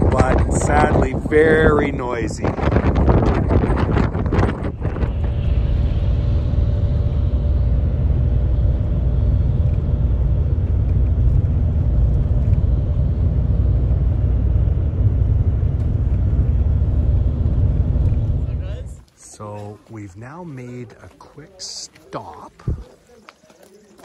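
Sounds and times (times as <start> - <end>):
vehicle driving rumble: 0.0 - 19.8
faint steady hum: 0.0 - 22.8.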